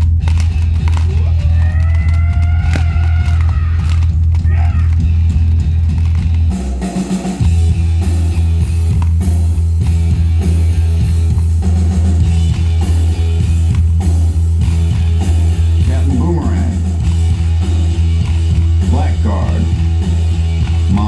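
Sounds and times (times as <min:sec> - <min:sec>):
heavy bass beat: 0:00.0 - 0:21.0
rock music with guitar and drums: 0:00.0 - 0:21.0.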